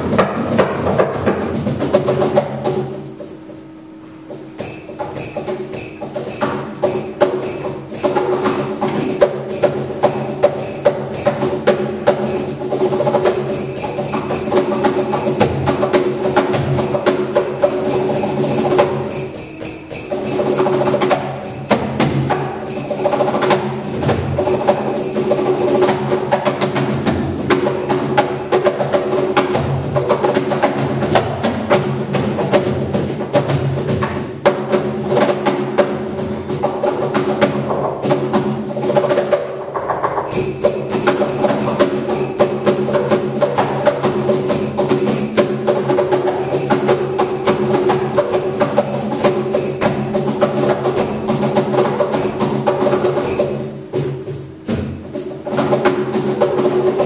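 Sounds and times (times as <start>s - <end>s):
cajon slaps and taps: 0.0s - 3.4s, 5.0s - 19.0s, 20.3s - 57.0s.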